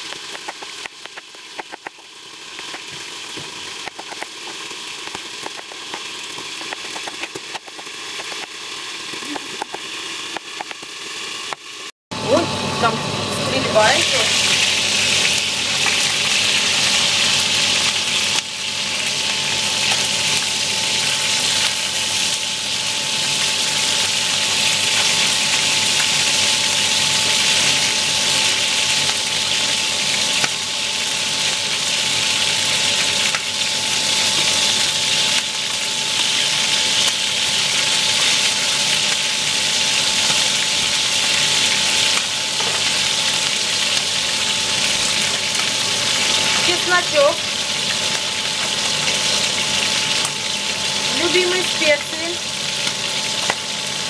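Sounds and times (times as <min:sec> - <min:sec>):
meat frying in oil: 0:00.0 - 0:11.9, 0:13.7 - 0:54.0
thin steady whine: 0:00.0 - 0:54.0.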